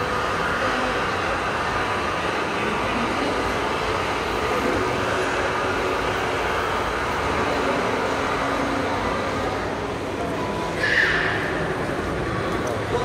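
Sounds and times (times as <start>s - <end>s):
moving vehicle running noise: 0.0s - 13.0s.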